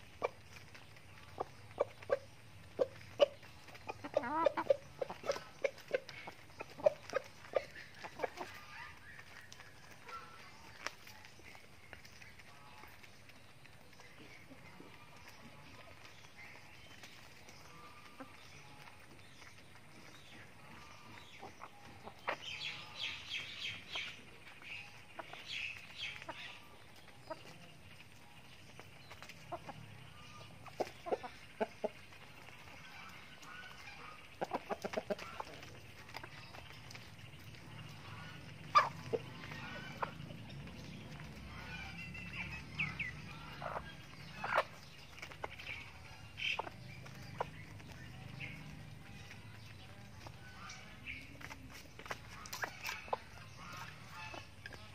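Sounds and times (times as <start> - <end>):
beaks pecking on plastic tarp: 0.0 - 54.9
chickens clucking softly: 0.0 - 54.9.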